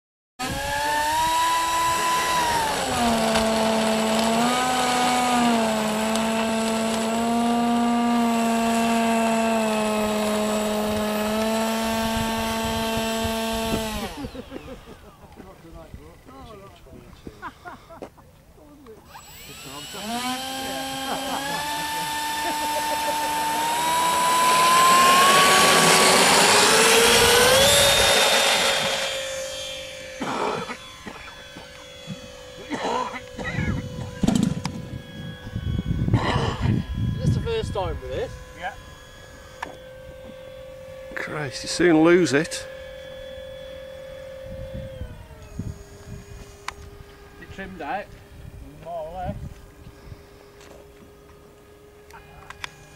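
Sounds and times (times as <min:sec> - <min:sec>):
model plane electric motors whining: 0:00.4 - 0:52.9.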